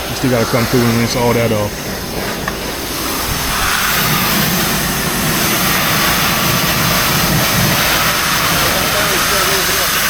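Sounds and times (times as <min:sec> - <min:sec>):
high-pressure water spray hissing: 0:00.0 - 0:10.0
pressure washer engine droning: 0:00.0 - 0:10.0.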